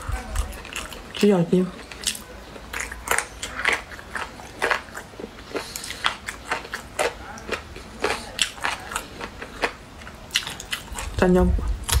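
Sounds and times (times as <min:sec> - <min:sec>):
person chewing with crunches: 0:00.0 - 0:12.0.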